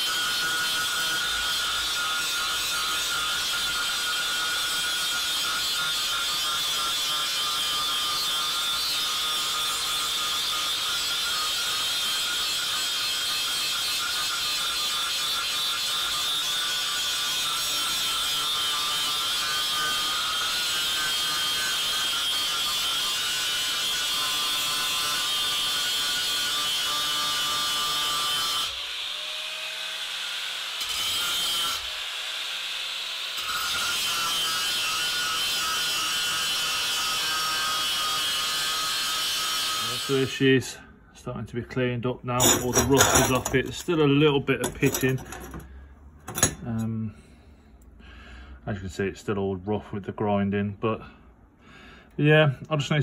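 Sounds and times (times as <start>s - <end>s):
angle grinder grinding steel: 0.0s - 40.4s, 42.4s - 46.9s.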